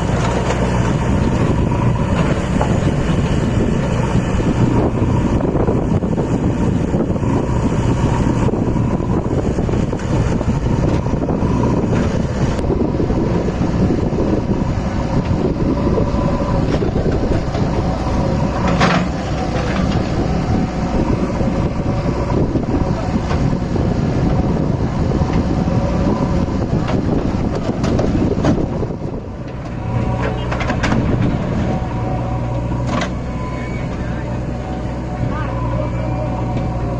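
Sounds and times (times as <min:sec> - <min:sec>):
diesel tractor engine running: 0:00.0 - 0:36.9.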